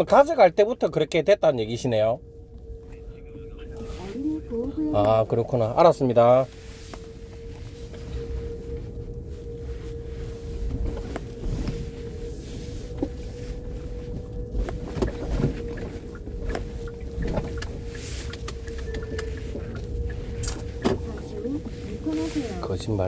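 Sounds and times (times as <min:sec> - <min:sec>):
car road and engine rumble: 0:00.0 - 0:23.0
faint steady hum: 0:00.0 - 0:23.0.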